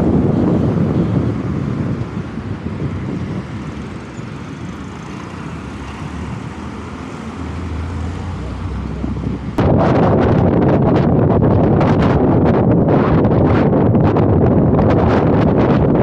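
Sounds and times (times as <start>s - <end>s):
wind and road noise: 0.0s - 16.0s
wind buffeting on microphone: 0.0s - 16.0s.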